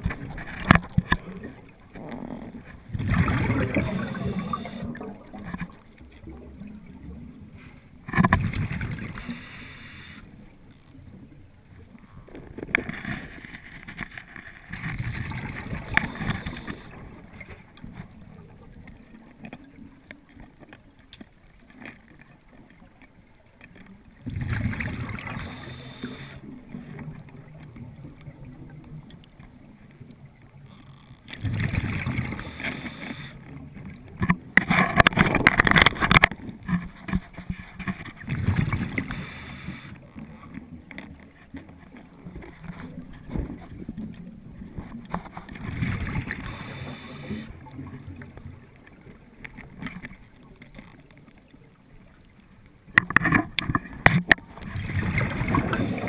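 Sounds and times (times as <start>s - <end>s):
water sloshing and gurgling: 0.0s - 56.0s.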